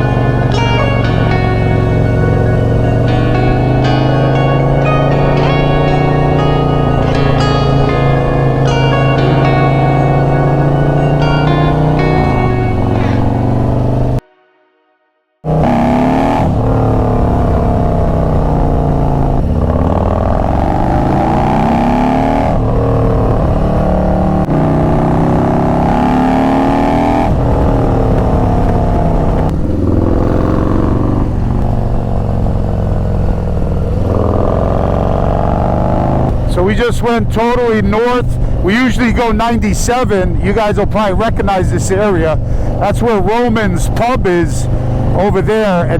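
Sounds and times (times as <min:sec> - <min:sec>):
motorcycle engine accelerating: 0:00.0 - 0:14.2, 0:15.4 - 0:45.9.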